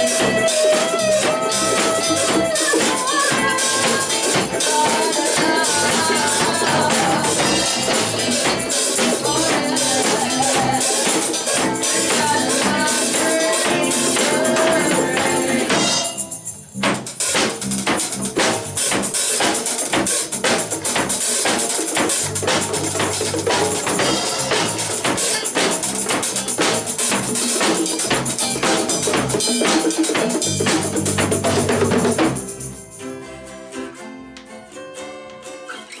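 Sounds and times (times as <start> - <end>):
acoustic guitar playing: 0.0 - 36.0
live band upbeat groove: 0.0 - 36.0.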